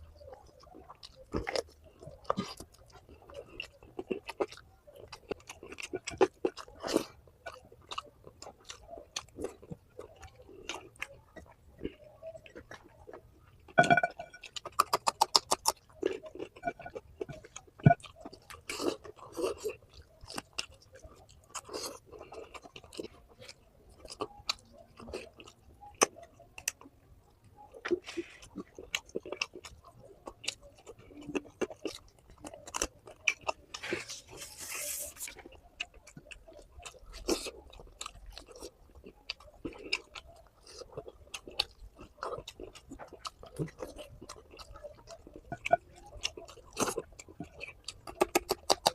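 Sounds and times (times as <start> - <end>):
close chewing and biting: 0.0 - 48.9.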